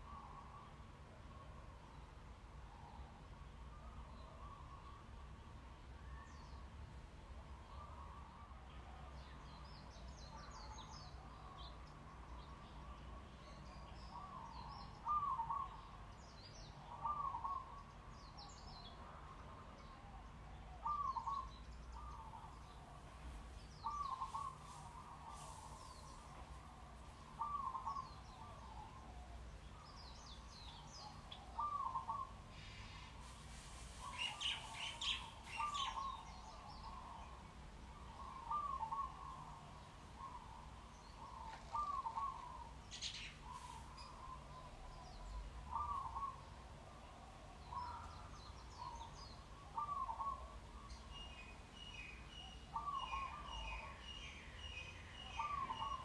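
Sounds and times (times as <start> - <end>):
birds chirping: 7.7 - 56.0.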